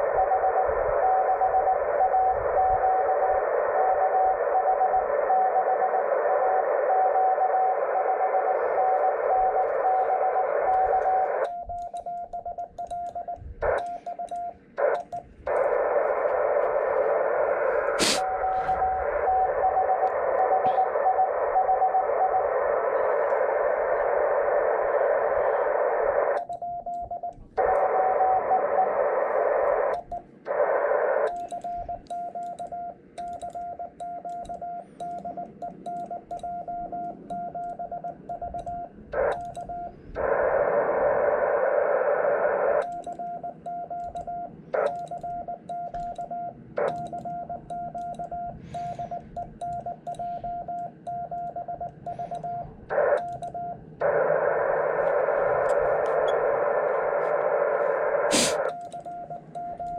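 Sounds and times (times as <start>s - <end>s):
receiver hiss: 0.0s - 12.0s, 12.6s - 26.5s, 27.6s - 32.4s, 39.2s - 43.6s, 46.8s - 59.8s.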